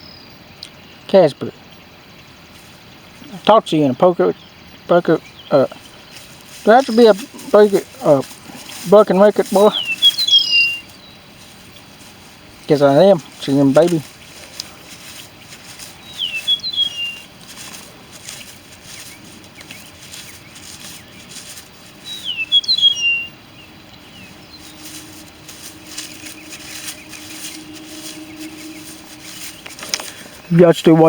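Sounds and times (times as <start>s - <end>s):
faint background noise: 0.0s - 31.0s
songbird chirping: 0.0s - 31.0s.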